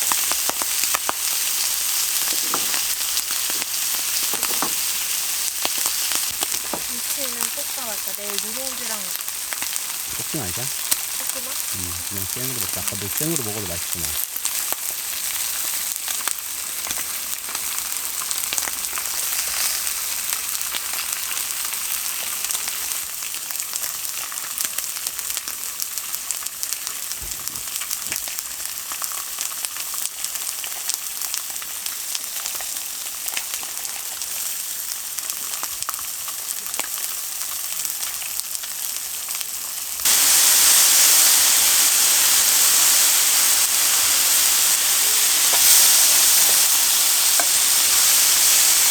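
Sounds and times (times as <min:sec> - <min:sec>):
food sizzling in a hot pan: 0:00.0 - 0:48.9.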